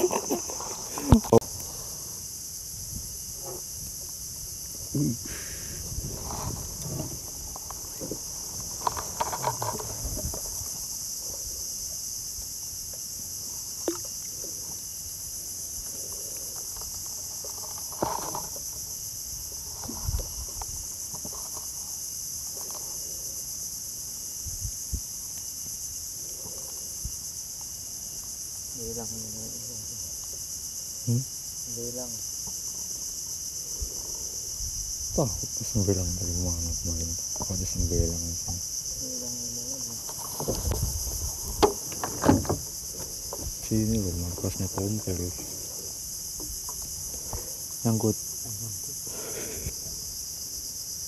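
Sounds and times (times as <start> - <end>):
insect chorus: 0.0 - 51.0.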